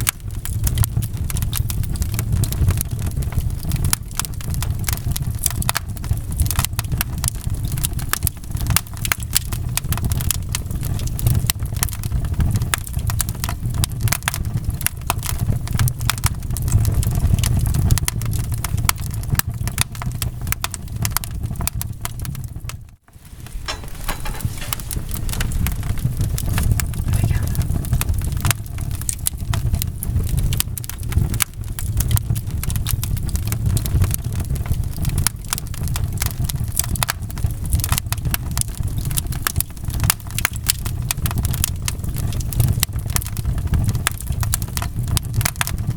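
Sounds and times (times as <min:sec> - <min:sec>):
low rumble of flames: 0:00.0 - 0:45.9
wood fire crackling and popping: 0:00.0 - 0:45.9.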